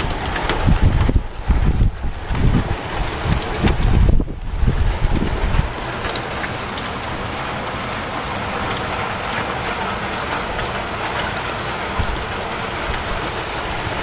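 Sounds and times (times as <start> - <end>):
heavy rain pouring: 0.0 - 14.0
wind gust on microphone: 0.0 - 14.0.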